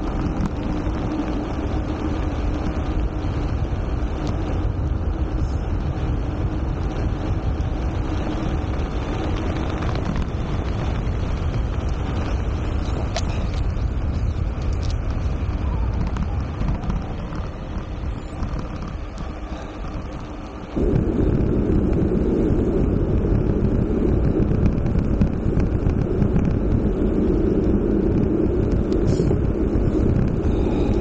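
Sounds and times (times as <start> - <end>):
bicycle tyre noise on gravel: 0.0 - 31.0
wind rushing over microphone: 0.0 - 31.0.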